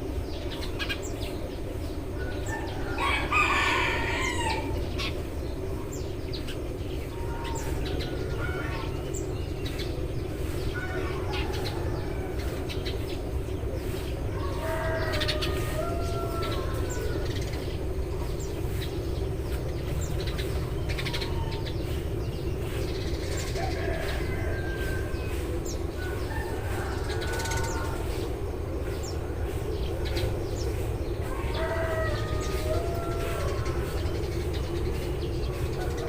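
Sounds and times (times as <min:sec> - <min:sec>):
low background hum: 0:00.0 - 0:36.0
sparrows chirping: 0:00.0 - 0:36.0.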